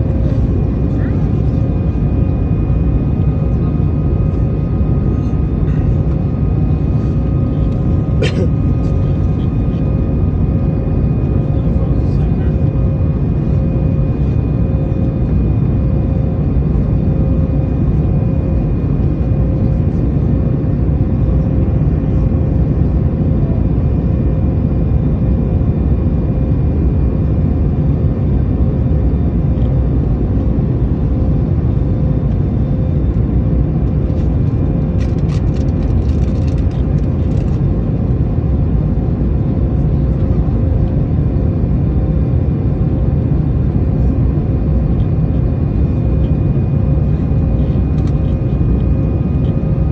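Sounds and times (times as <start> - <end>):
jet engines rumbling: 0.0 - 49.9.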